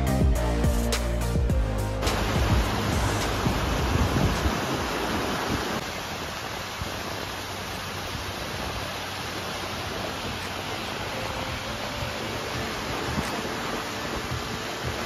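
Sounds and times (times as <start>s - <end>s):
stream rushing over rocks: 1.0s - 15.0s.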